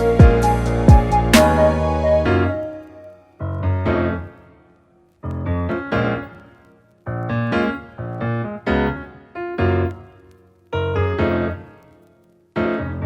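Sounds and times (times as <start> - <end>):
piano chords: 0.0 - 12.0, 12.6 - 13.0.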